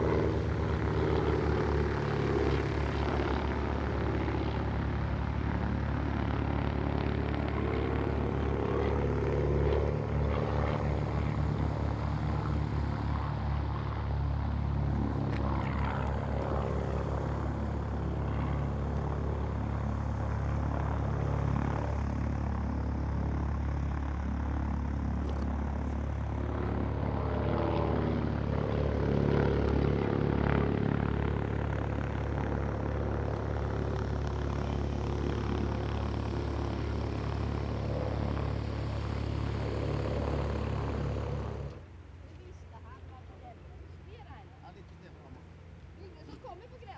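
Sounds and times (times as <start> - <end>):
propeller plane engine: 0.0 - 46.9.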